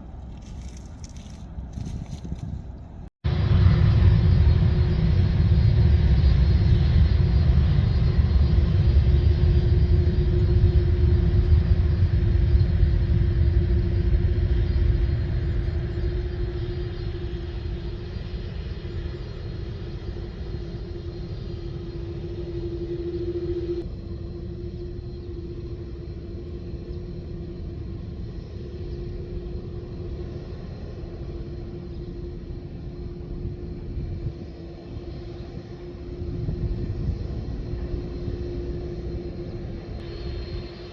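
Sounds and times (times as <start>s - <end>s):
jet airliner engines rumbling: 0.0s - 40.9s.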